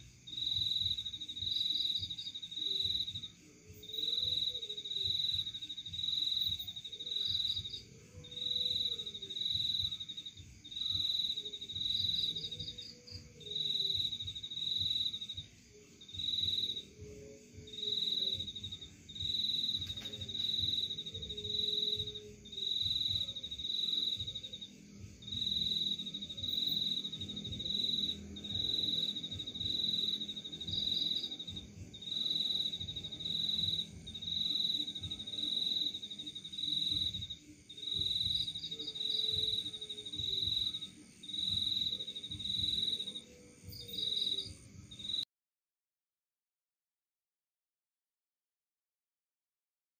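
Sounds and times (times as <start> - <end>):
cricket chirping: 0.0 - 45.2.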